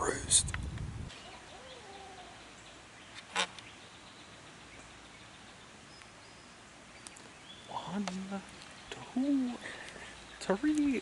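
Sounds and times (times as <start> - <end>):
distant bird call: 1.1 - 11.0.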